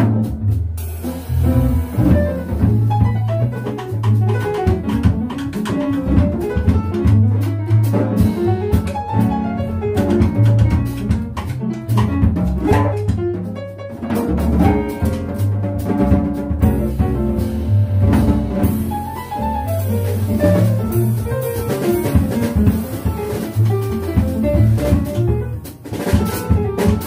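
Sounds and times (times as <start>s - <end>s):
double bass notes: 0.0s - 27.0s
drum kit with cymbals: 0.0s - 27.0s.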